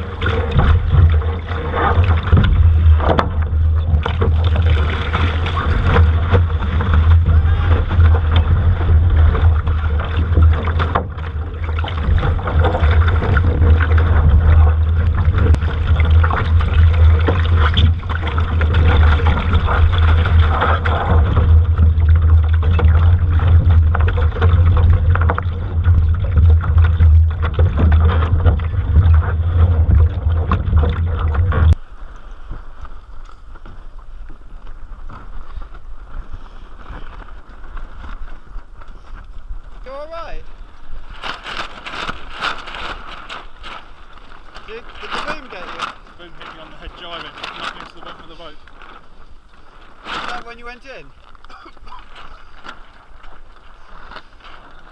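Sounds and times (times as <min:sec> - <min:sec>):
water rushing around boat: 0:00.0 - 0:54.9.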